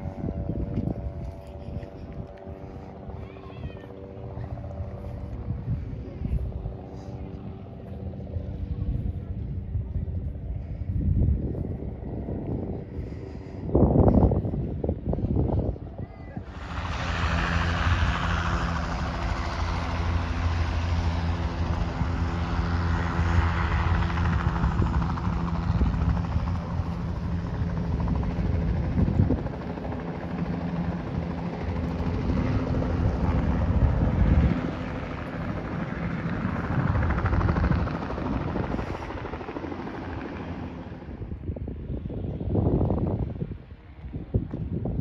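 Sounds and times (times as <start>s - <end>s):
engine drone: 0.0s - 44.2s
outdoor rushing noise: 0.0s - 45.0s.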